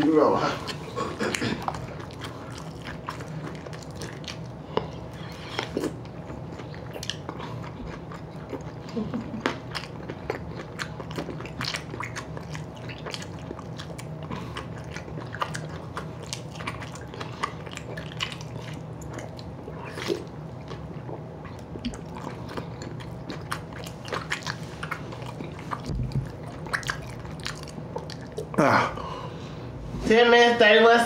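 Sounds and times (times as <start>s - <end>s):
low steady hum: 0.0s - 31.0s
person chewing with crunching: 0.1s - 29.6s.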